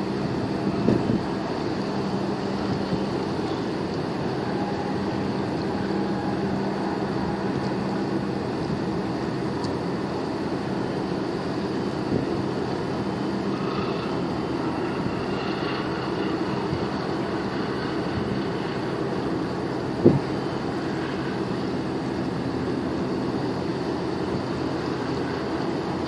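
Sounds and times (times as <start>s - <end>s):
boat engine droning: 0.0s - 26.0s
water noise: 0.0s - 26.0s.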